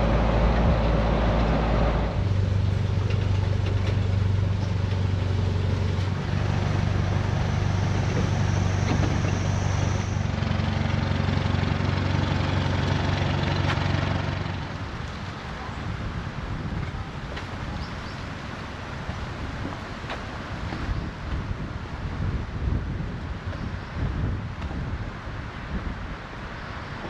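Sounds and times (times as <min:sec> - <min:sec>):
road and wind noise: 0:00.0 - 0:27.0
vehicle engine humming: 0:00.0 - 0:27.0.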